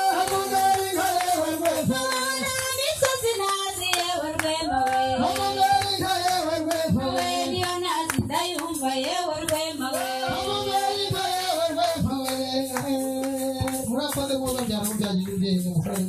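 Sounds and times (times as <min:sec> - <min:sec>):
handclaps: 0:00.0 - 0:16.0
person singing with music: 0:00.0 - 0:16.0.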